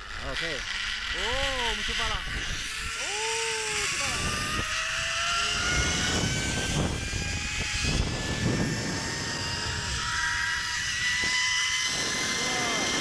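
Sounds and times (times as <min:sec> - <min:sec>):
pulley wheels whining on cable: 0:00.0 - 0:13.0
wind rumbling on microphone: 0:01.1 - 0:13.0.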